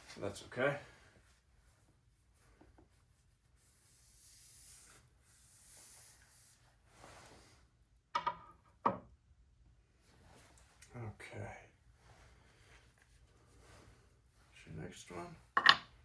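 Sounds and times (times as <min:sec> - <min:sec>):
soft rubbing and handling noises: 0:00.0 - 0:08.0, 0:09.8 - 0:16.0.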